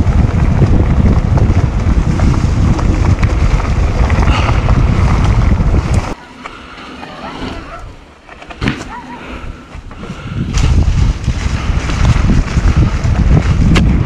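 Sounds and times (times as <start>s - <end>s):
wind buffeting microphone: 0.0s - 8.1s, 8.9s - 14.0s
bike clicks and rattles: 0.0s - 9.0s, 9.7s - 14.0s
bike tyres rumbling on dirt: 0.0s - 14.0s.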